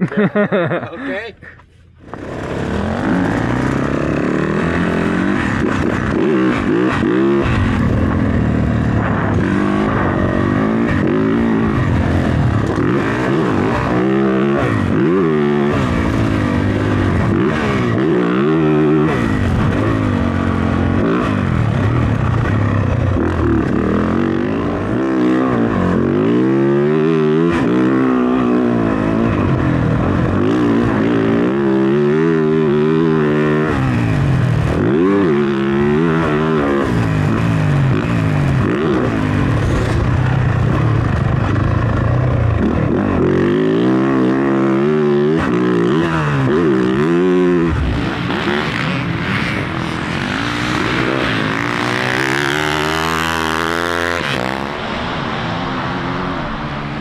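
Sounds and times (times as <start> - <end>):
dirt bike engine revving: 2.0 - 57.0.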